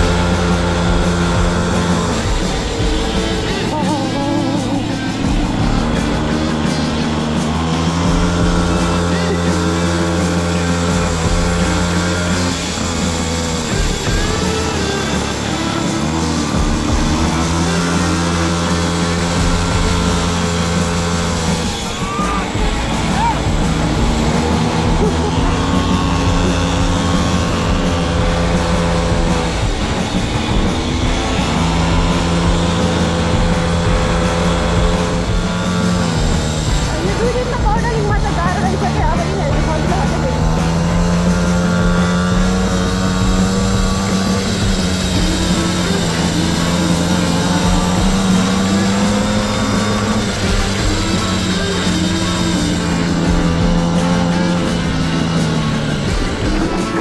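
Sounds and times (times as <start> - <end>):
small two-stroke engine revving: 0.0 - 57.0.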